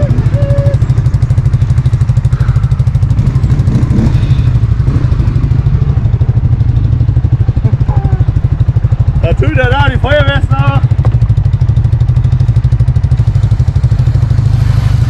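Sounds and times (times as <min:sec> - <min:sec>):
atv engine idling: 0:00.0 - 0:14.9.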